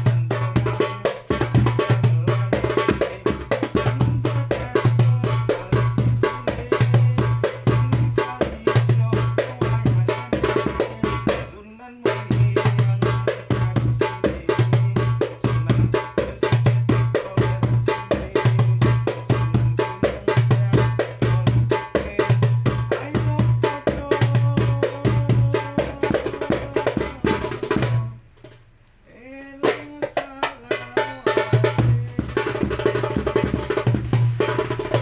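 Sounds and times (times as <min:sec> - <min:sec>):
darbuka rim strokes: 0:00.0 - 0:28.7, 0:29.6 - 0:35.0
darbuka bass strokes: 0:00.0 - 0:35.0.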